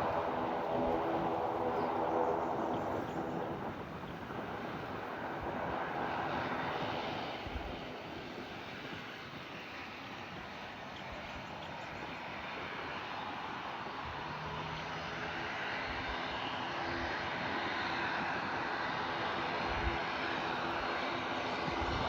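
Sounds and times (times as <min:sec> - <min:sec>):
airliner engines running: 0:00.0 - 0:22.0.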